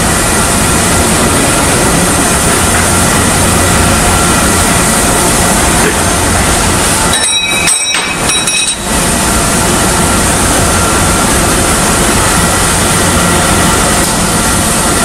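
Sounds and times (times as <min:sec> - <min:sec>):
loud machinery rumble: 0:00.0 - 0:15.0.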